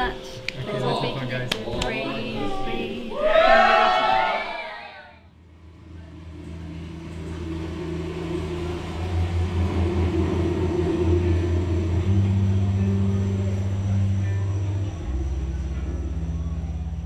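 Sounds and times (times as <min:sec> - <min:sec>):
low droning musical pad: 0:00.0 - 0:04.4, 0:05.3 - 0:17.0.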